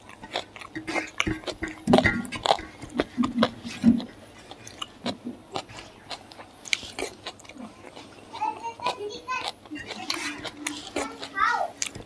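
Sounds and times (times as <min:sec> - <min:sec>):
chewing fried pork: 0:00.0 - 0:12.0.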